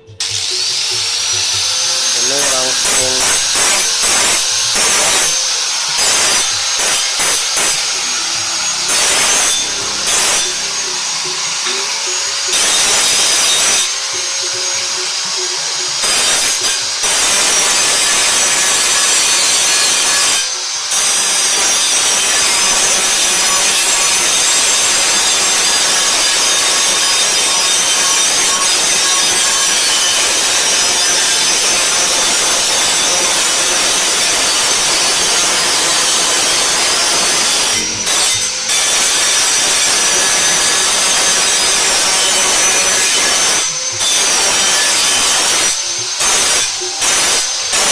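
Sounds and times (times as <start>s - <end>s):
angle grinder grinding steel: 0.0s - 47.9s.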